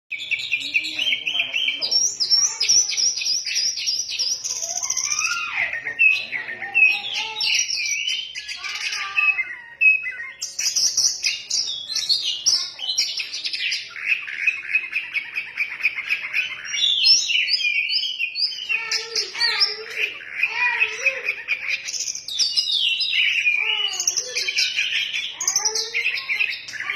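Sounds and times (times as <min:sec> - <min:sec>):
bird singing: 0:00.1 - 0:26.9.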